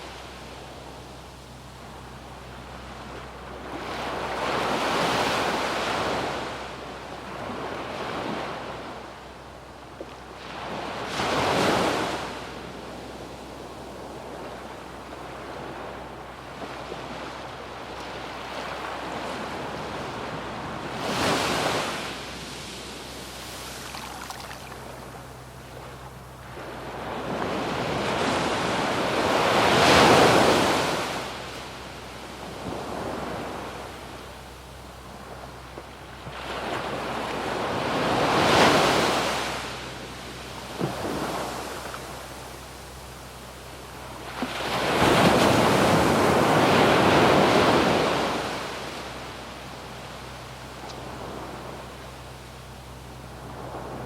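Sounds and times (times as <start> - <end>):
sea waves breaking on beach: 2.8 - 9.1, 10.3 - 34.3, 36.1 - 52.0.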